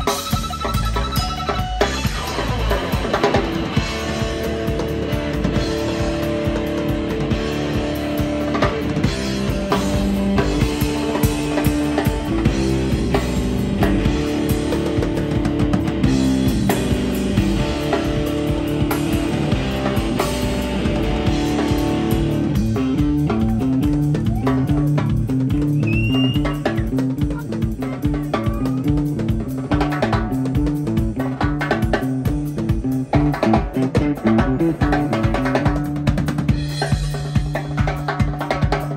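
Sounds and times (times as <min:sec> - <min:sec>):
drum kit: 0:00.0 - 0:38.9
electric bass line: 0:00.0 - 0:38.9
electric guitar: 0:00.0 - 0:38.9.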